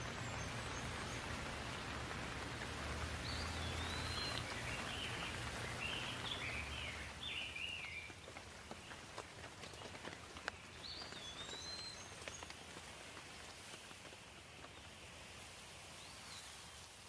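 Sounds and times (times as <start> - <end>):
raindrops dripping: 0.0 - 15.5
steady rain hiss: 0.0 - 17.0.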